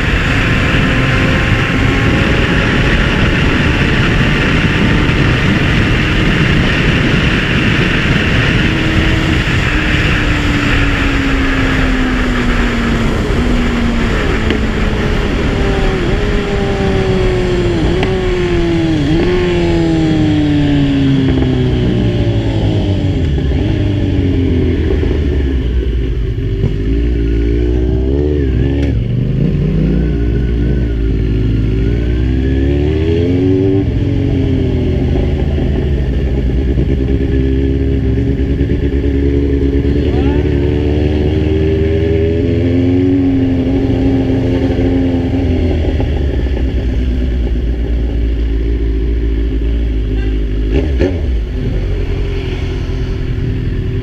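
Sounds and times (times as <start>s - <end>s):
wind rush: 0.0s - 49.1s, 50.7s - 54.0s
motorcycle engine decelerating: 0.0s - 54.0s.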